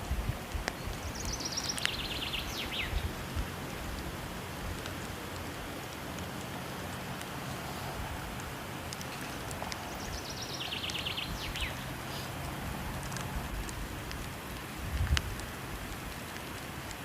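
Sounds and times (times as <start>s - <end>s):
falling water: 0.0s - 17.0s
wood fire crackling: 0.0s - 17.0s.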